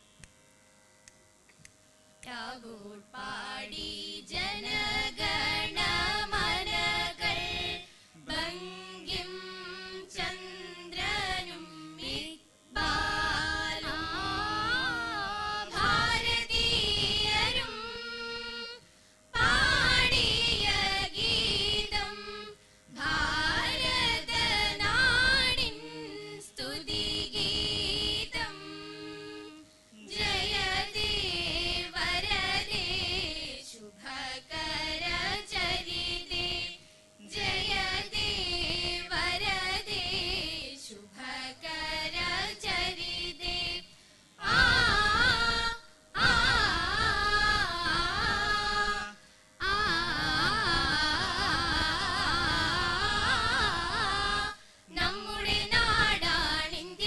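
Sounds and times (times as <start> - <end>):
group of singers singing: 2.2 - 18.8, 19.4 - 57.0.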